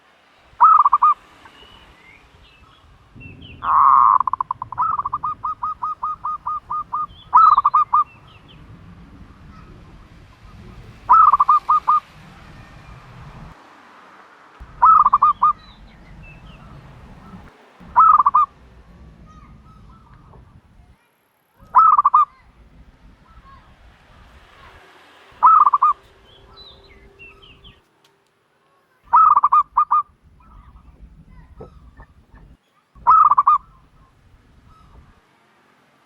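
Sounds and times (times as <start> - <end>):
dove calling: 0.5 - 13.6, 14.6 - 21.0, 21.6 - 27.8, 29.1 - 35.2
faint bird chirps: 0.6 - 13.2, 14.6 - 24.8, 25.4 - 27.8, 28.8 - 35.2.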